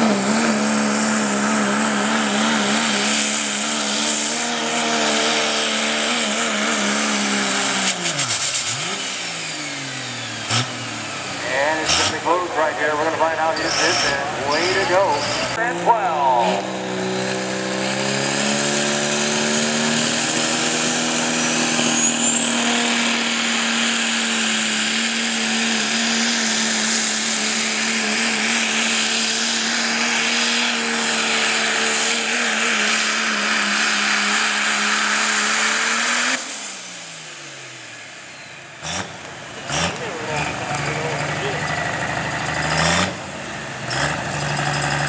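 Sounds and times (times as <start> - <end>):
diesel truck engine at full throttle: 0.0 - 45.0.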